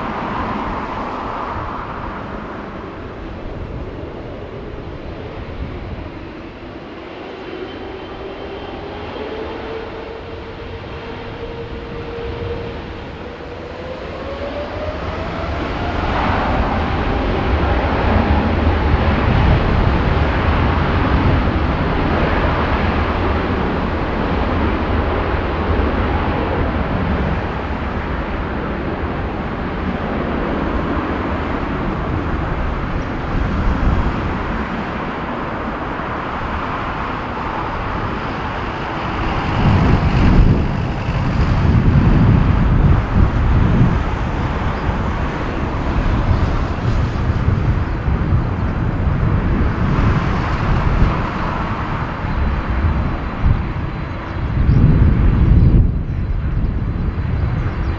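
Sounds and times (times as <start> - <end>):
jet engines spooling up: 0.0 - 54.4.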